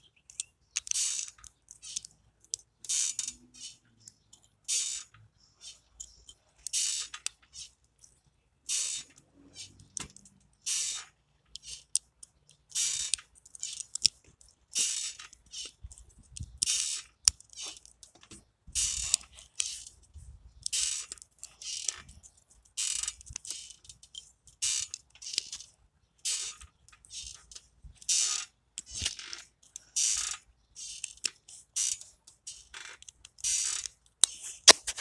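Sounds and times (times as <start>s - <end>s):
plastic pieces clicking and rubbing: 0.0s - 35.0s.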